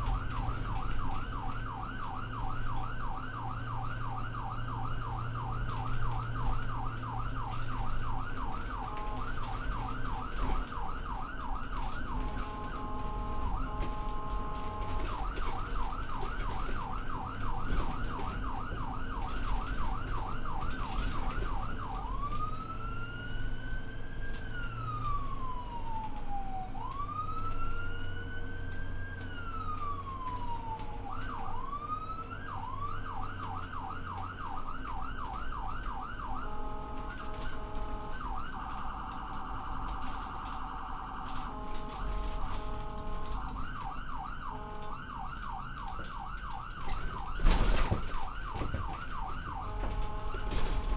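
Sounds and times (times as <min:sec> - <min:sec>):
ambulance siren: 0:00.0 - 0:50.9.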